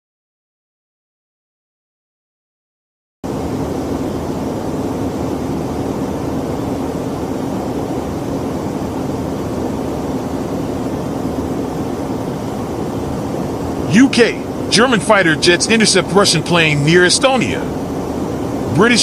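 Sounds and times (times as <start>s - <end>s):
aircraft engine drone: 3.2s - 19.0s.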